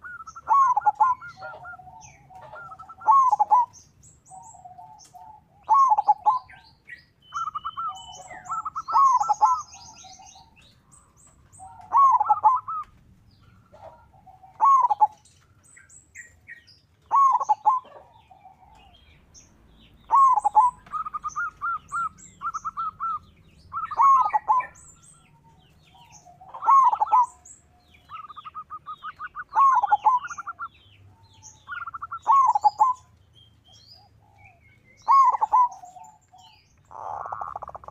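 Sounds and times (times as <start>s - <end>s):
dove rattling coos: 0.0s - 6.6s, 7.3s - 15.2s, 17.1s - 33.1s, 34.0s - 37.9s
small birds chirping: 0.0s - 37.9s.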